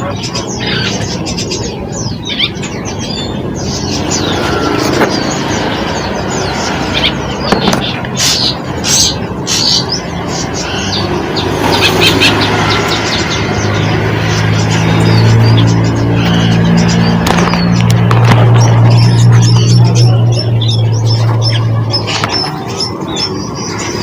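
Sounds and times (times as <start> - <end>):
small birds chirping: 0.0 - 24.0
vehicle engine hum: 0.0 - 24.0.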